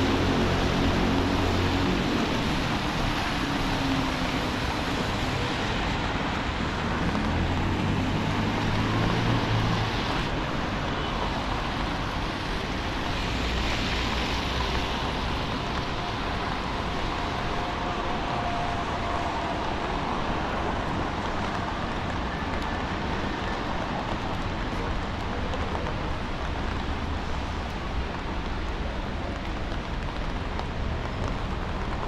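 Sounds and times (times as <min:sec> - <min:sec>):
tyres hissing on wet road: 0:00.0 - 0:32.0.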